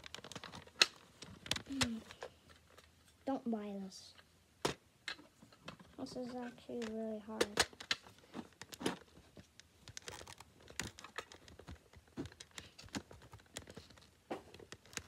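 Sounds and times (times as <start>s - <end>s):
plastic toy parts clicking and rattling: 0.0s - 2.9s, 5.1s - 15.0s.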